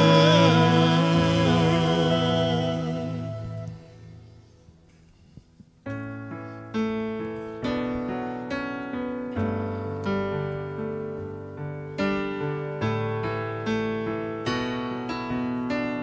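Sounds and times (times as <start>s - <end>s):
keyboard piano chords: 0.0s - 4.2s, 5.8s - 16.0s.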